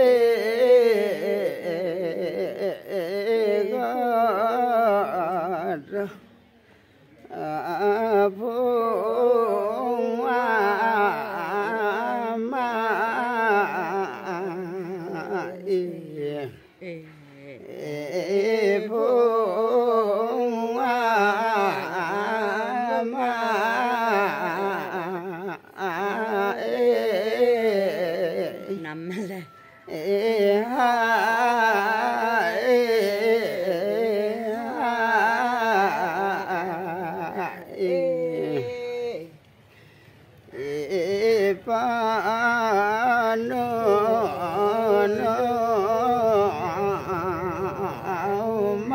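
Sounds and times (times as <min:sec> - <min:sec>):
man singing unaccompanied: 0:00.0 - 0:06.5, 0:07.2 - 0:39.7, 0:40.4 - 0:48.9.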